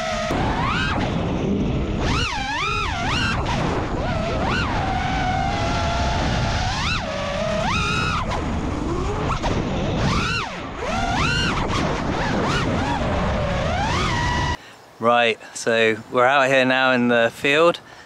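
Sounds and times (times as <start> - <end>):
quadcopter motors whining: 0.0 - 14.6.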